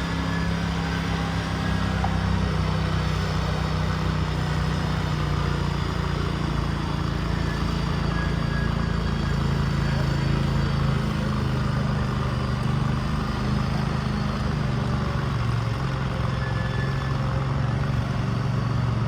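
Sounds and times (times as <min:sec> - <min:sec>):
garden tractor engine running: 0:00.0 - 0:19.0.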